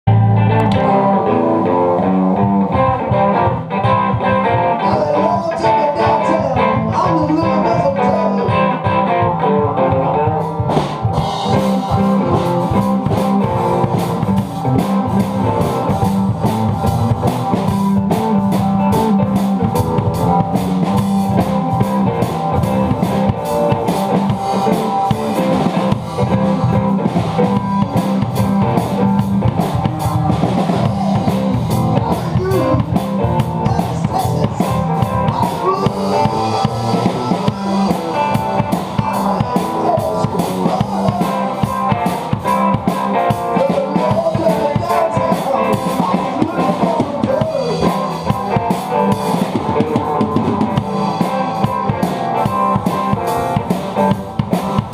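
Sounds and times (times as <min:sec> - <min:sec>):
blues-rock guitar: 0:00.0 - 0:54.9
drum kit with cymbals: 0:00.5 - 0:54.9.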